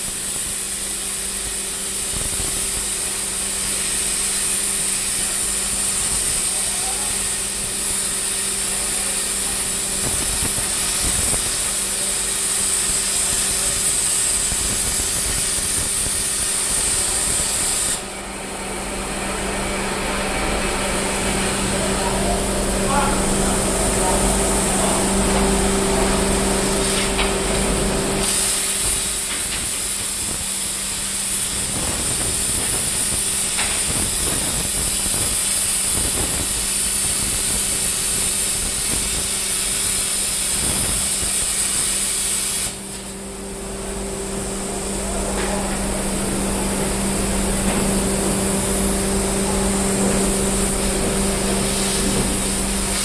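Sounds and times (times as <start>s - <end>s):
plasma cutter torch hissing: 0.0s - 53.0s.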